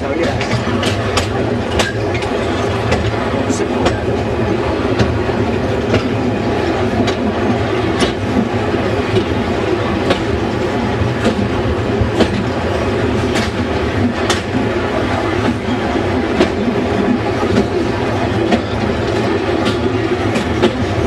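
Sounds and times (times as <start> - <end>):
rail joints clicking: 0.0 - 21.0
train wheels rumbling on track: 0.0 - 21.0.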